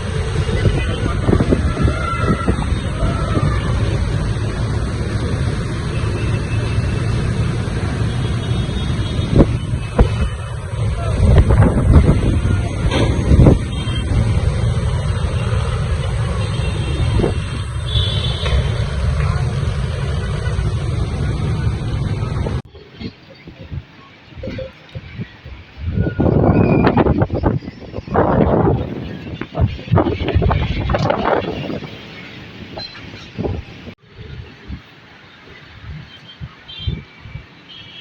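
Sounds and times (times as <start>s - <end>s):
storm wind buffeting microphone: 0.0s - 37.7s
road traffic: 0.0s - 38.0s.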